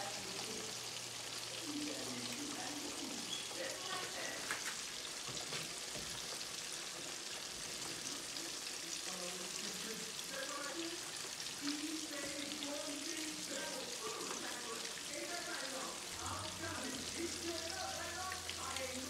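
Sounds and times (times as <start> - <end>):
deep-frying oil sizzling: 0.0 - 19.0
oil crackling and popping: 3.1 - 19.0.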